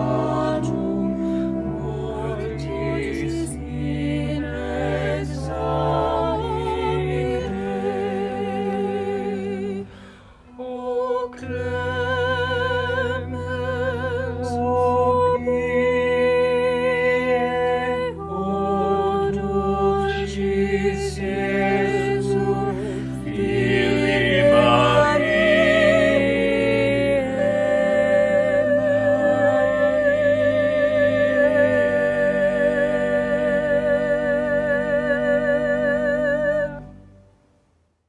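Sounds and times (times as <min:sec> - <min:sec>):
vocal quartet singing in harmony: 0:00.0 - 0:37.1.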